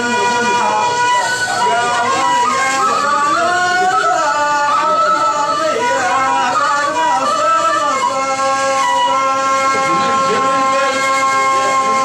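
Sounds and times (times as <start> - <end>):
person singing long held notes: 0.0 - 12.0.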